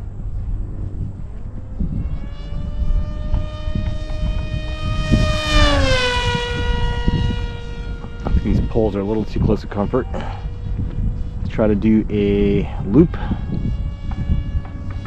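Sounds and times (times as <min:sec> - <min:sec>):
model aircraft motor whining: 0:00.0 - 0:15.0
wind rumble on microphone: 0:00.0 - 0:15.0.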